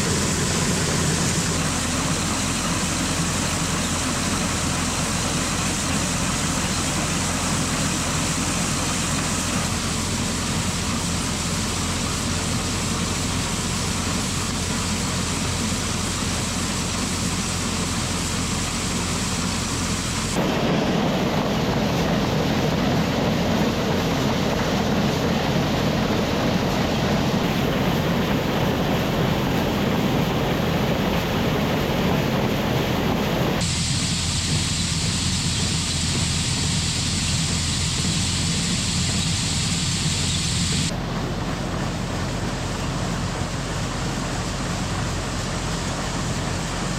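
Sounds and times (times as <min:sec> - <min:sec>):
heavy farm machinery engine drone: 0:00.0 - 0:46.9.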